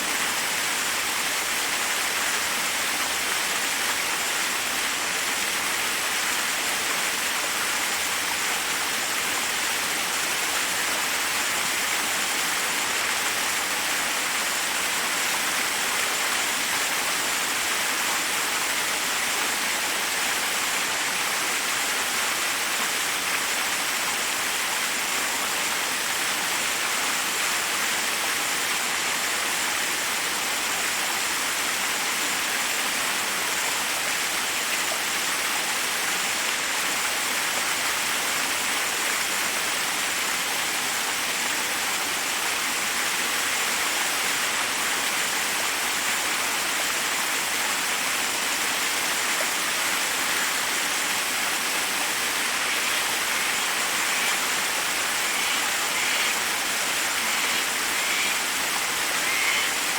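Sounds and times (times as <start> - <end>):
waterfall cascading over rocks: 0.0 - 59.9.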